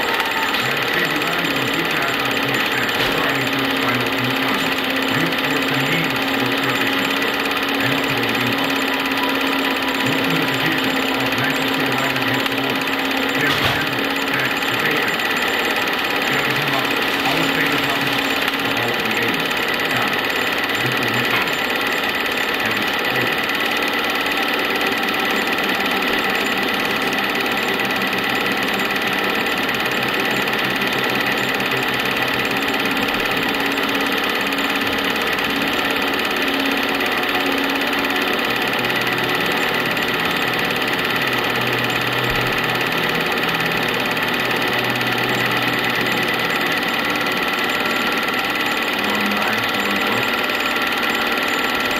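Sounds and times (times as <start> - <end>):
constant high tone: 0.0 - 51.9
film projector whirring: 0.0 - 51.9.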